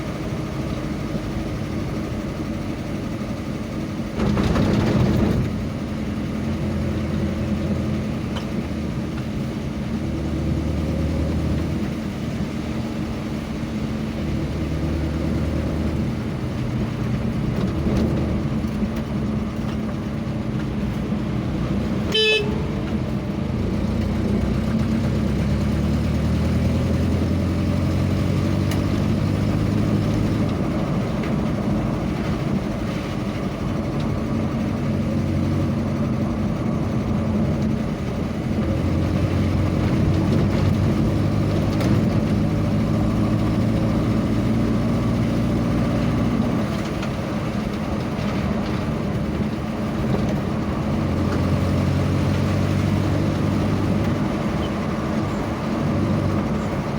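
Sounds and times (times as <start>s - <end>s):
road noise: 0.0s - 56.9s
vehicle engine droning: 0.0s - 56.9s.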